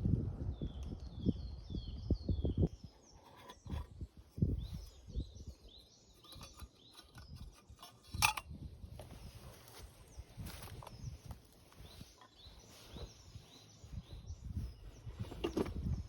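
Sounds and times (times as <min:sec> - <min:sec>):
small bird chirping: 0:00.5 - 0:08.1, 0:09.9 - 0:16.0.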